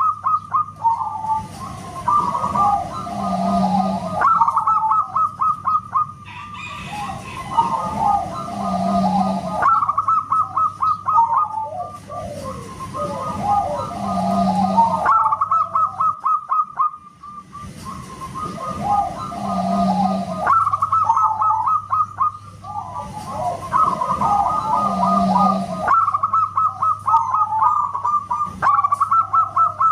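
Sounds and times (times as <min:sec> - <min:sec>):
dove cooing: 0:00.0 - 0:29.9.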